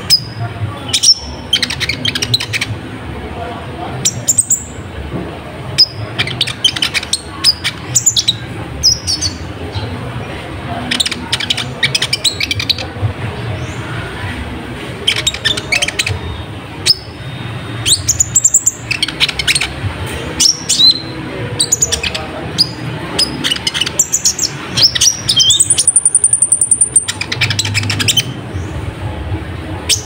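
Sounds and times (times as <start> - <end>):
bird singing chirps and trills: 0.0 - 2.8, 3.9 - 4.8, 5.7 - 10.1, 10.8 - 29.1, 29.8 - 30.0.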